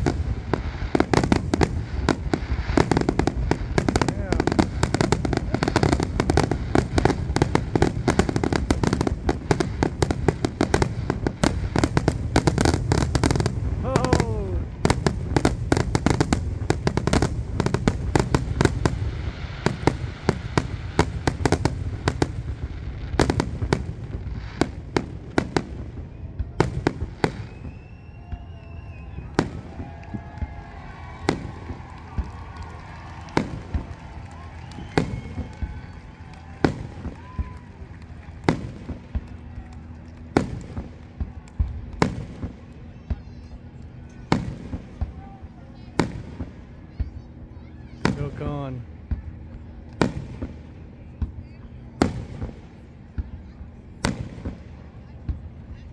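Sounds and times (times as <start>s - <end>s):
fireworks bangs with echo: 0.0s - 47.3s, 47.9s - 55.8s
small fireworks pops: 0.0s - 55.9s.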